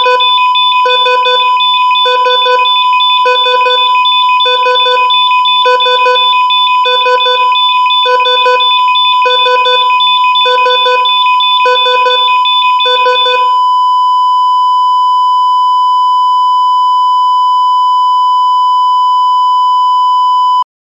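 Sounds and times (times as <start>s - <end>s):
flatline tone: 0.0s - 20.6s
heart monitor beeps: 0.0s - 20.6s.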